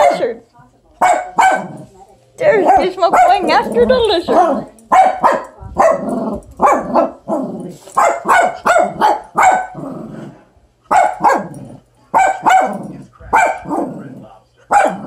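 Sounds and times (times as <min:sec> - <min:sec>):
dog barking excitedly: 0:00.0 - 0:00.4, 0:01.0 - 0:09.8, 0:10.8 - 0:14.0, 0:14.7 - 0:15.0.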